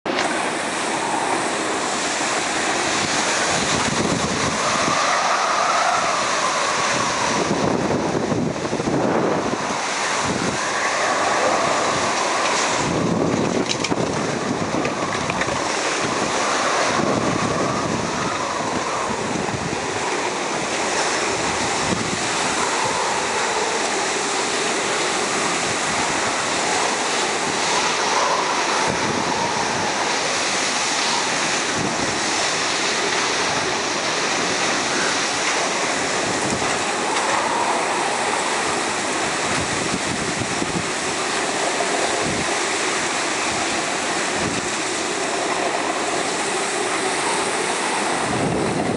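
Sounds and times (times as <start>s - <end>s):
strong wind blowing: 0.1s - 48.9s
wind buffeting microphone: 0.1s - 48.9s.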